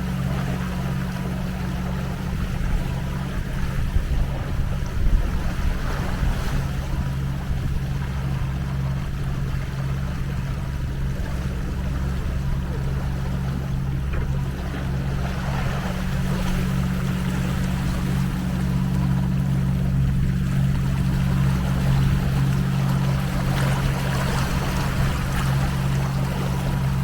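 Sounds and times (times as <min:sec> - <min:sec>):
boat engine droning: 0:00.0 - 0:27.0
water rushing past hull: 0:00.0 - 0:27.0.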